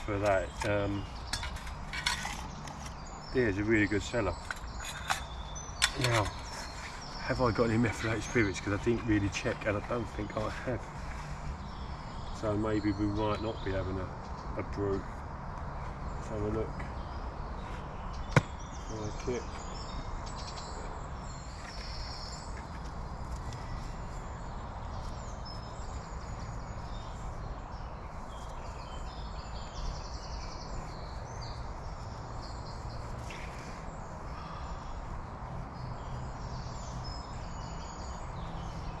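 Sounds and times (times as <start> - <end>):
songbirds chirping and trilling: 0.0 - 39.0.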